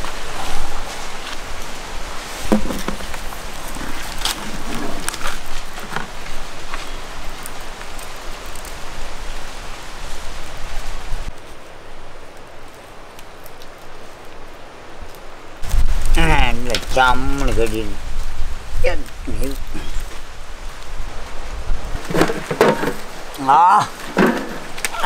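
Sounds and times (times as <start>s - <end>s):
leaves crinkling and rustling: 0.0s - 25.0s.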